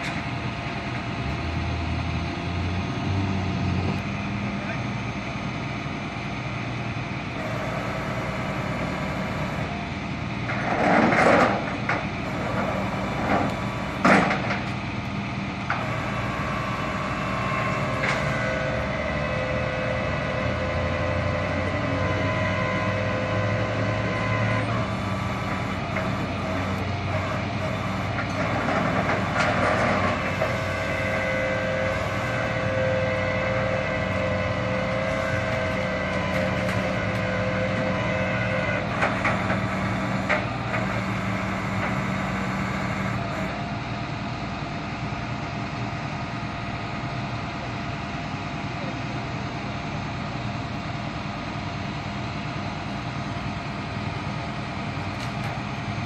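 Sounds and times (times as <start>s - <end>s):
tow truck winch humming: 0.0s - 56.0s.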